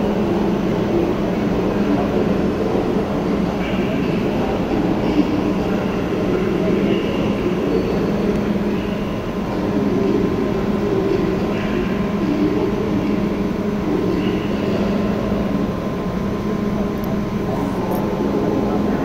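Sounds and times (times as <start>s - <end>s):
train humming and rumbling: 0.0s - 19.0s.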